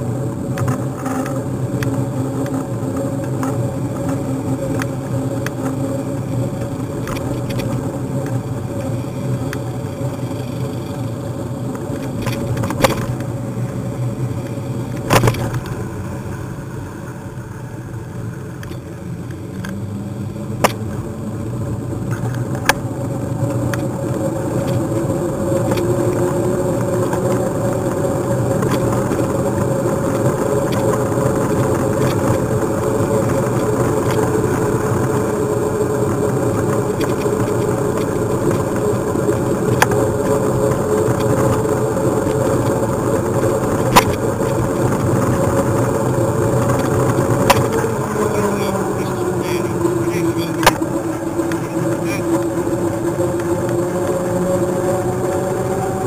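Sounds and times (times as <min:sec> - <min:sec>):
bicycle tyres rolling on asphalt: 0:00.0 - 0:56.0.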